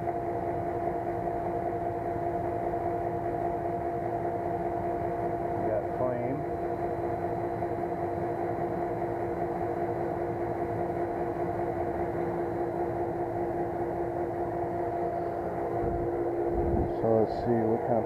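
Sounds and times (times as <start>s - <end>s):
heater blower and burner hum: 0.0s - 18.0s.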